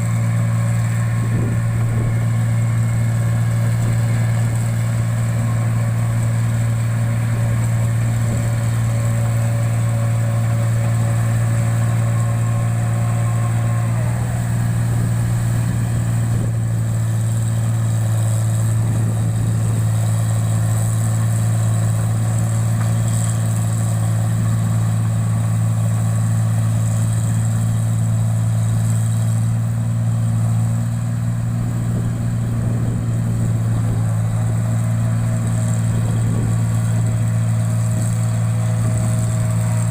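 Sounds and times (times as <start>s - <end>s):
machine engine humming: 0.0s - 39.9s.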